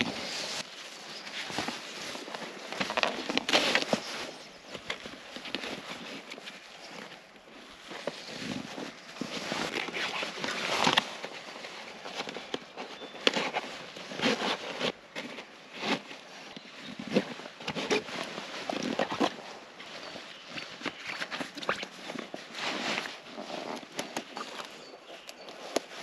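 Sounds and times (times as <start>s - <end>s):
rustling and scraping of bag straps: 0.0s - 26.0s.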